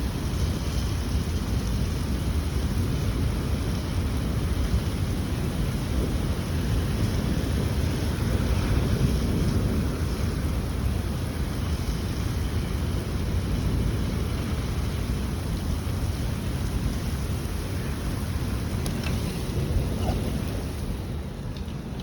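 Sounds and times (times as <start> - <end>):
rain: 0.0 - 22.0
wind buffeting microphone: 0.0 - 22.0.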